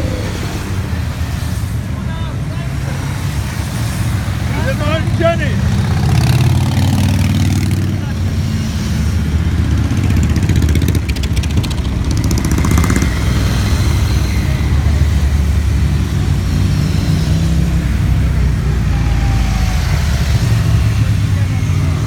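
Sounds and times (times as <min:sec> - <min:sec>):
motorcycles passing by: 0:00.0 - 0:22.0.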